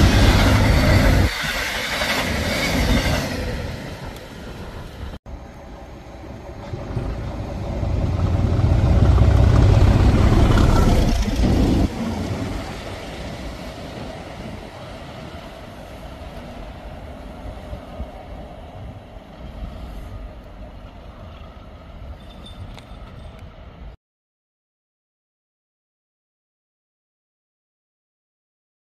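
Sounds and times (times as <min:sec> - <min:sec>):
diesel locomotive rumble: 0:00.0 - 0:23.9.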